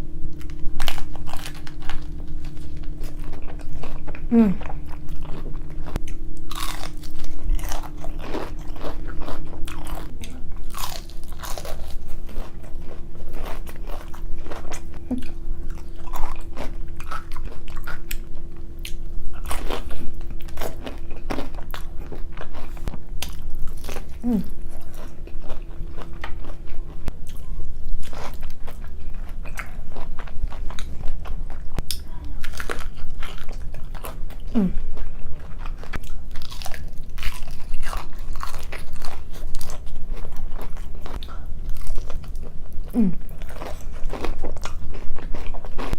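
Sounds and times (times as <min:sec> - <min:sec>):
faint steady hum: 0:00.0 - 0:45.9
crunching and chewing crisp food: 0:00.3 - 0:45.9.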